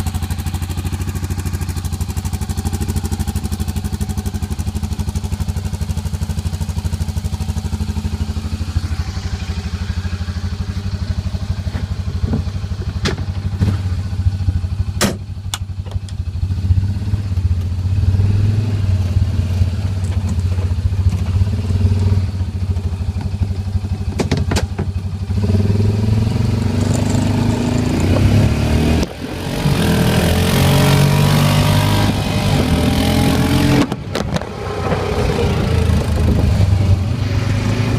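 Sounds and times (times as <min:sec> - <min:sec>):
engine idling and revving: 0:00.0 - 0:37.9.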